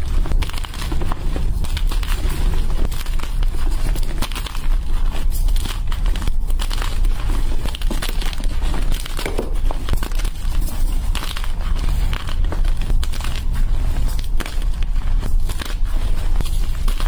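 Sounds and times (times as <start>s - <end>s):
chalk crunching between hands: 0.0s - 17.0s
steady low rumble: 0.0s - 17.0s.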